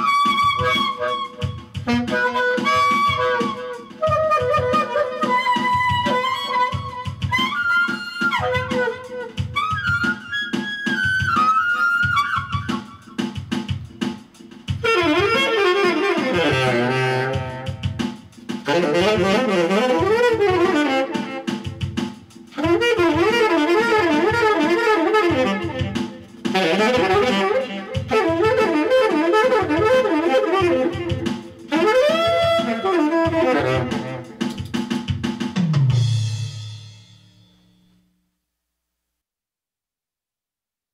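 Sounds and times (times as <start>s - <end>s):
saxophone playing jazz: 0.0s - 14.1s, 14.7s - 35.2s
drum beat: 0.0s - 37.1s.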